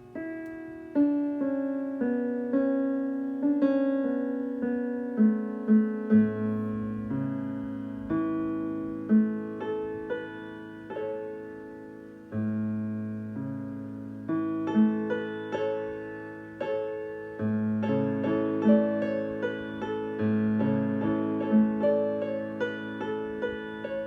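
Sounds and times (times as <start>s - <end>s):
electronic piano chords: 0.0s - 24.0s.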